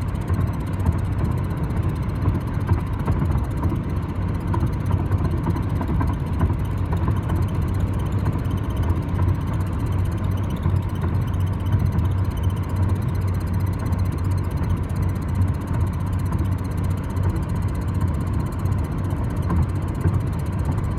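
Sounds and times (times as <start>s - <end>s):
car engine and road drone: 0.0s - 20.9s.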